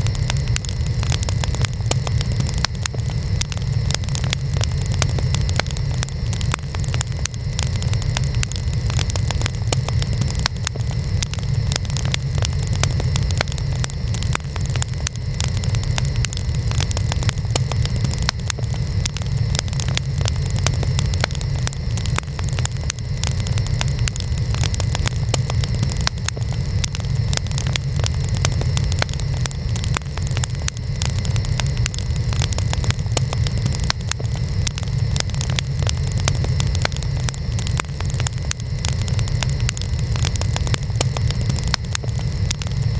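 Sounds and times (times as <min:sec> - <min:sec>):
low fire rumble: 0:00.0 - 0:42.9
wood fire crackling and popping: 0:00.0 - 0:42.9.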